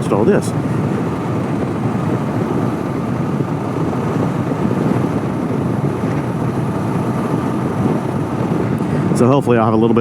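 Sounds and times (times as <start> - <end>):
motorcycle engine riding: 0.0 - 10.0
wind rushing over microphone: 0.0 - 10.0.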